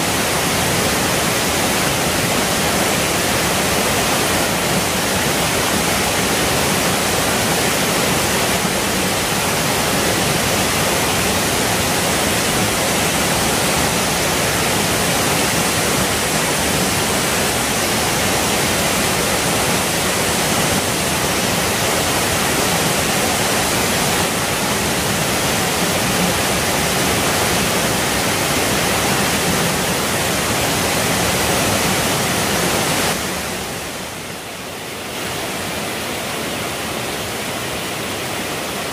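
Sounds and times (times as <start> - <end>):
stream rushing over rapids: 0.0 - 38.9.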